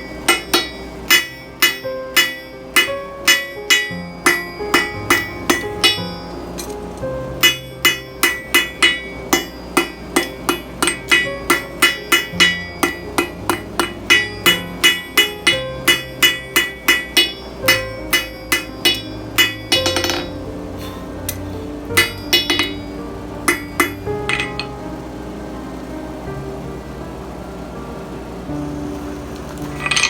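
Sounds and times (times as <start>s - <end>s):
hammer ringing on anvil: 0.0s - 24.8s.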